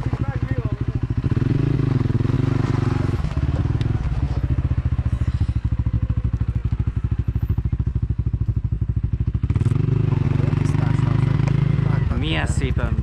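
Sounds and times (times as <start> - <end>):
atv engine chugging: 0.0 - 13.0.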